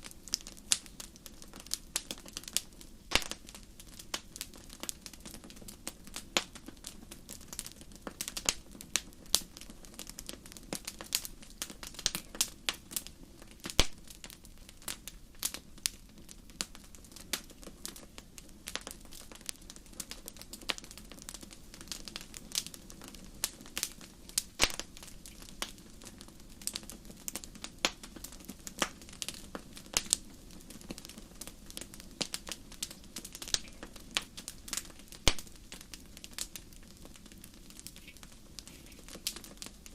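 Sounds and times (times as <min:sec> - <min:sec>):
fire crackling and popping: 0:00.0 - 0:39.9
low rush of flames: 0:00.0 - 0:39.9.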